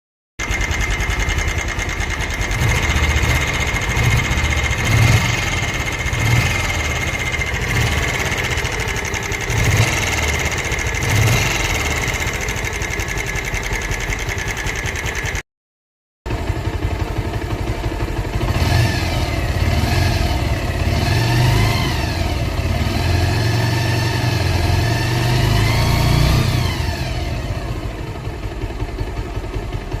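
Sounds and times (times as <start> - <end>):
motorcycle engine revving: 0.4 - 15.4, 16.3 - 30.0.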